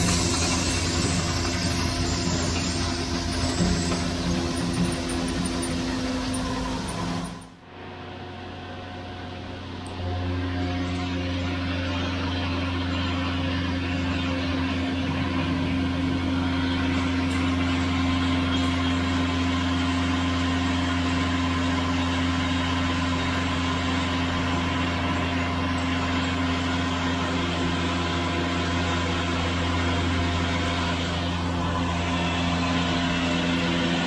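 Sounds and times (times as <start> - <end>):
mill machinery humming: 0.0 - 34.0.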